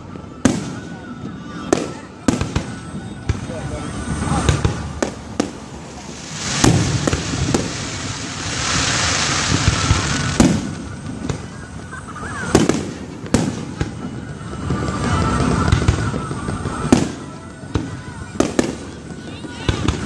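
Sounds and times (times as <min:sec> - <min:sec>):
fireworks booming: 0:00.0 - 0:20.0
fireworks hiss: 0:00.3 - 0:20.0.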